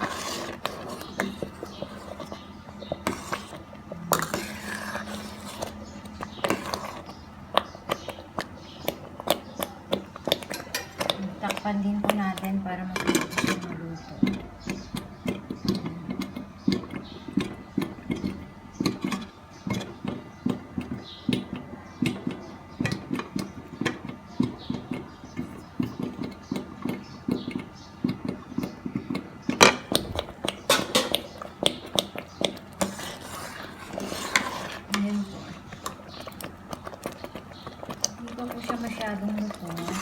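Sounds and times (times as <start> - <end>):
porridge bubbling in a pot: 0.0 - 40.0.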